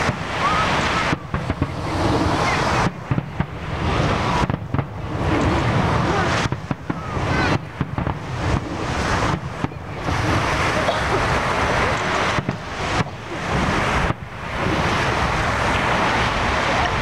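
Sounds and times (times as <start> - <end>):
deep rumble: 0.0 - 17.0
surf: 0.0 - 17.0
wind buffeting microphone: 0.0 - 17.0.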